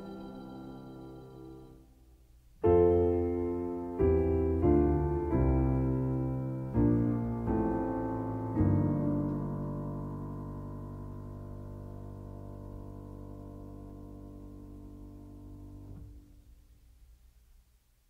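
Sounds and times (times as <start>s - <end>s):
slow piano chords: 0.0s - 16.9s.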